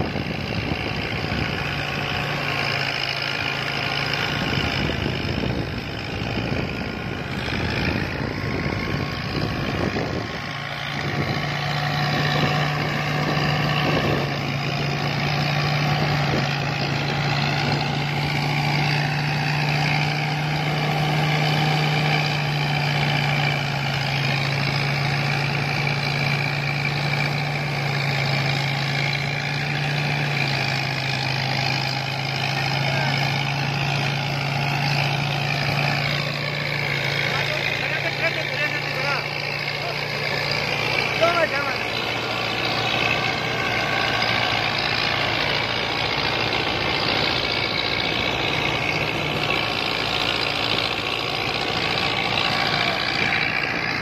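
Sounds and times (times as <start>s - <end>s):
thresher drum and blower: 0.0s - 54.0s
tractor diesel engine running: 0.0s - 54.0s.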